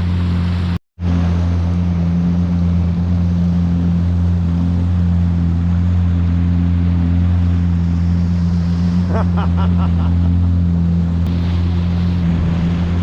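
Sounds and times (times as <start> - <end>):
watercraft engine idling: 0.0 - 13.0.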